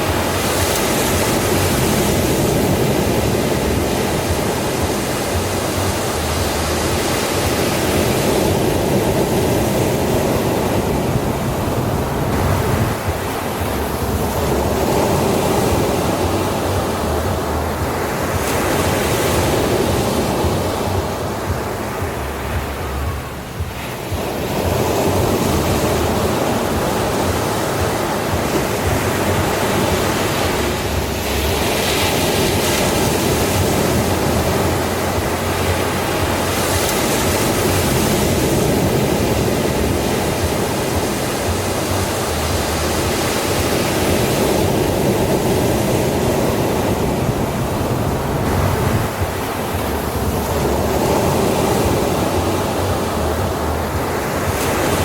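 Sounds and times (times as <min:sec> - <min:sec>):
ocean surf on sandy shore: 0:00.0 - 0:55.0.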